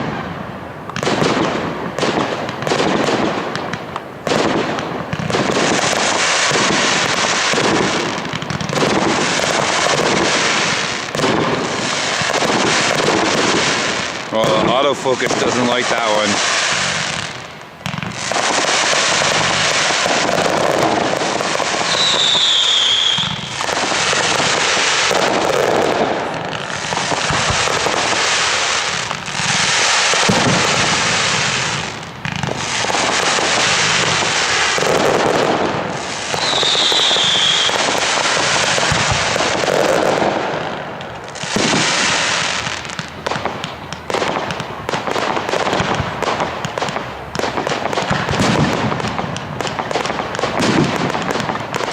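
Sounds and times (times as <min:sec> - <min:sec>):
falling firework whistle: 0:00.0 - 0:51.9
fireworks crackling and bursting: 0:00.0 - 0:51.9.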